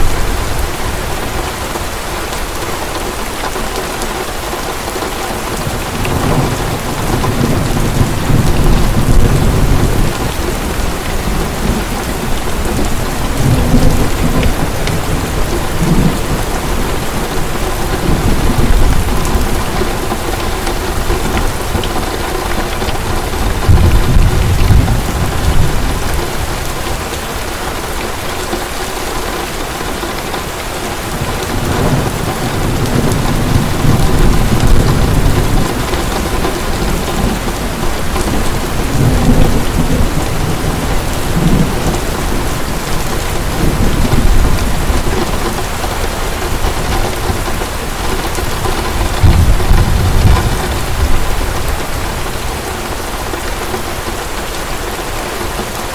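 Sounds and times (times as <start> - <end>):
heavy rain falling: 0.0 - 55.9
low thunder rumbling: 5.4 - 28.8, 30.8 - 53.9.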